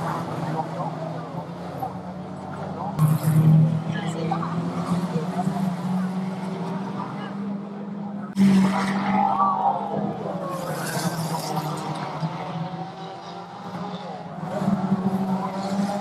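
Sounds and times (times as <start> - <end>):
racing van engines running hard: 0.0 - 16.0.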